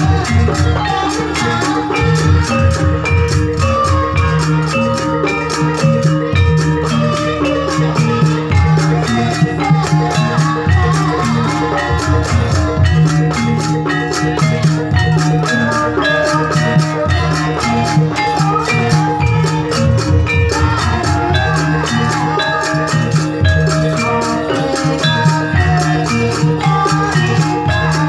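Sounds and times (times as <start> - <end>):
drums steady beat: 0.0 - 28.0
pitched melody lines: 0.0 - 28.0.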